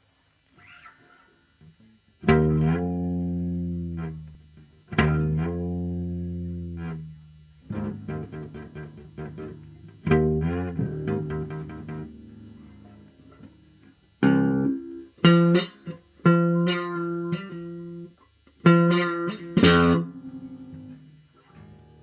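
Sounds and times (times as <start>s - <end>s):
bass guitar notes: 1.6s - 22.0s.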